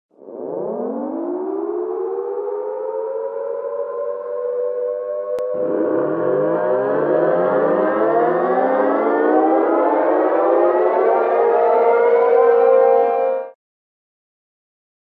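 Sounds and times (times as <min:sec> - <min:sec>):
warning siren winding up: 0:00.2 - 0:13.5.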